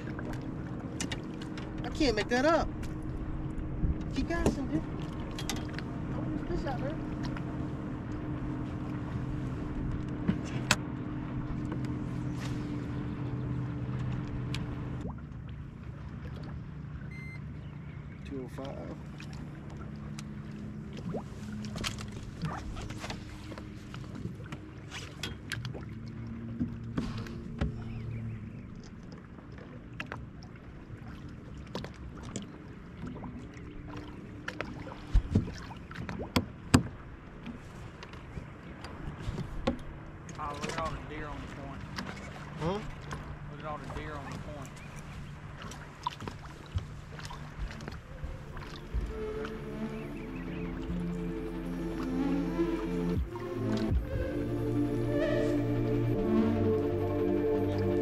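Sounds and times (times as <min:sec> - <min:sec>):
boat motor humming: 0:00.0 - 0:58.0.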